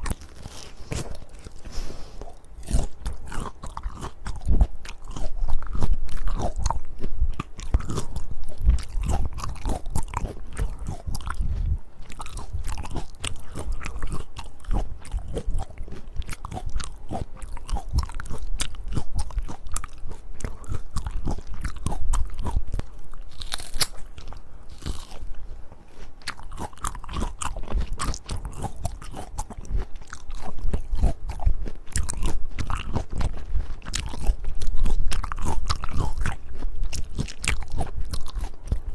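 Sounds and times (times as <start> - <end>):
crunchy biting and chewing: 0.0 - 38.9.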